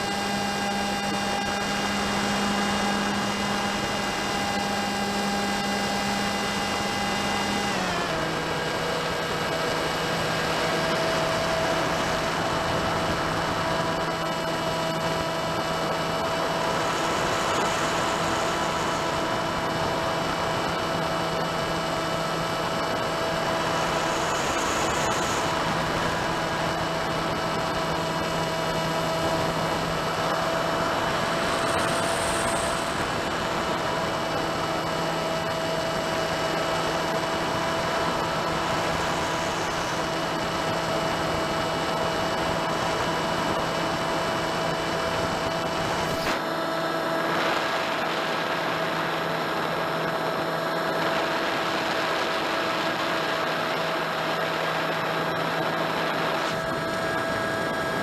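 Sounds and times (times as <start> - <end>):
electric model plane whine: 0.0 - 58.0.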